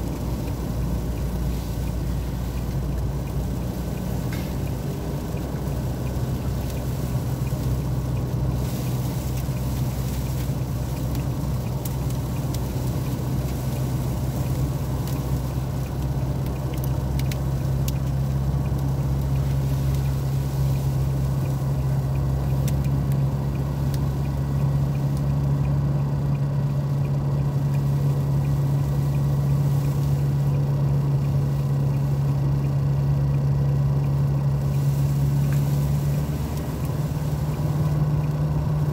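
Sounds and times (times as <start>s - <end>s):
car engine and road noise: 0.0s - 38.9s
faint ticks: 0.1s - 38.7s.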